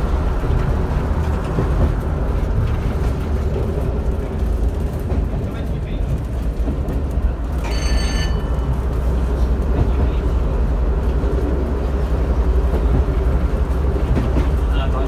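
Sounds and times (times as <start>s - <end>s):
railcar engine rumble: 0.0s - 15.0s.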